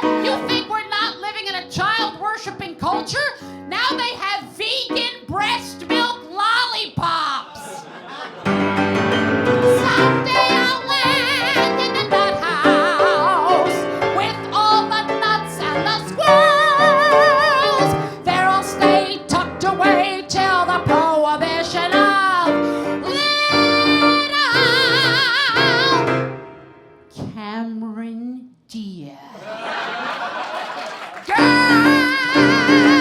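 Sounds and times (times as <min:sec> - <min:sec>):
piano accompaniment: 0:00.0 - 0:06.5, 0:08.4 - 0:27.3, 0:31.3 - 0:33.0
woman singing operatic style: 0:00.0 - 0:07.8, 0:09.6 - 0:26.2, 0:27.2 - 0:29.3, 0:31.2 - 0:33.0.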